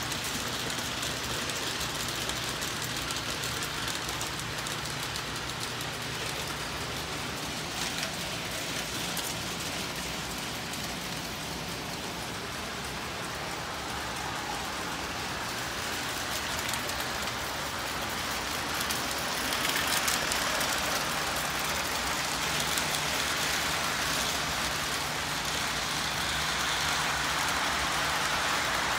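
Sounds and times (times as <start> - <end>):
model train wheels rumbling: 0.0 - 28.9.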